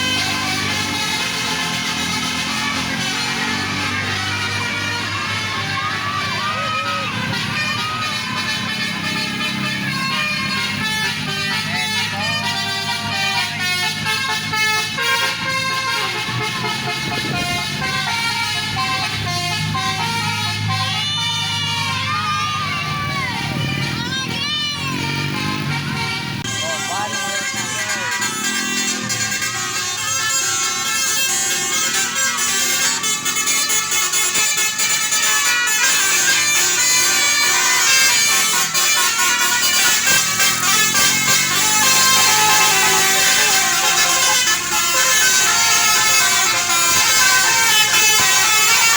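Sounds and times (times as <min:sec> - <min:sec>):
bus engine rumble: 0:00.0 - 0:48.9
multi-tone air horn tune: 0:00.0 - 0:48.9.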